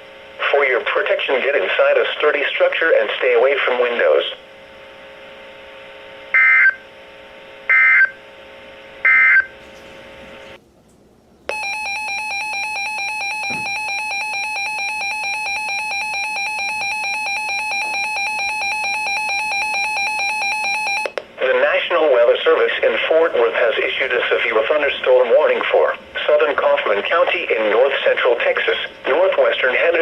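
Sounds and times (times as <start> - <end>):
faint hum: 0.0 - 30.0.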